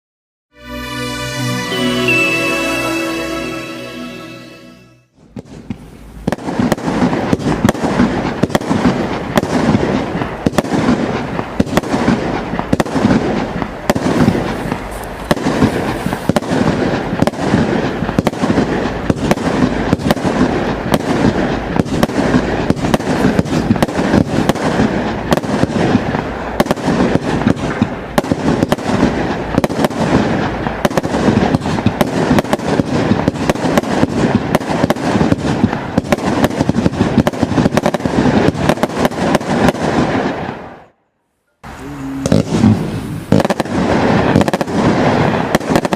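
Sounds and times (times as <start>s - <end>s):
firework barrage bangs and crackles: 5.2s - 40.9s, 41.6s - 45.9s.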